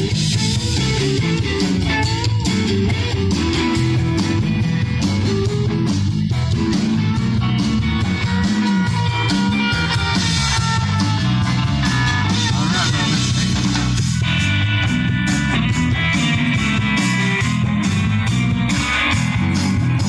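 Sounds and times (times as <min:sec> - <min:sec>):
electric guitar lead: 0:00.0 - 0:20.0
live rock band playing: 0:00.0 - 0:20.0.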